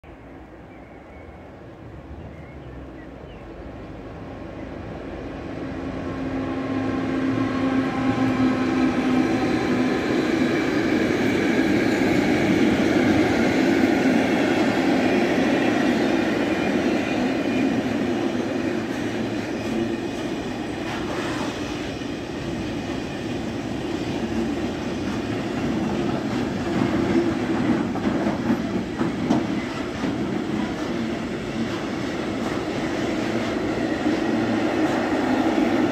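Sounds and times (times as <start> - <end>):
electric locomotive hum and whine: 0.1 - 35.9.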